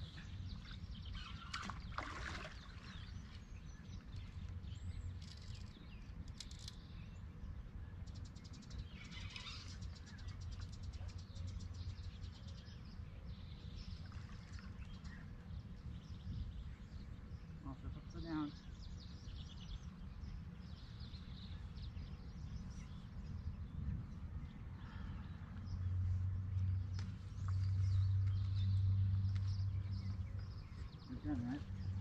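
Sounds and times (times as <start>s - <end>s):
birds chirping and calling: 0.0s - 7.1s, 8.3s - 23.6s, 27.0s - 32.0s
low outdoor rumble: 0.0s - 32.0s.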